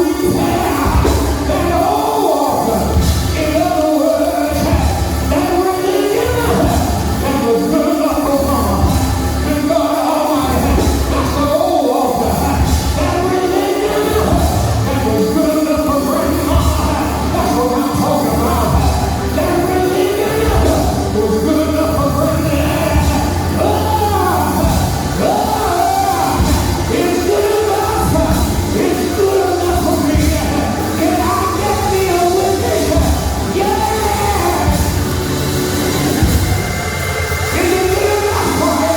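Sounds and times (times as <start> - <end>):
instrumental backing with bass: 0.0 - 38.9
voices singing church music: 0.0 - 38.9.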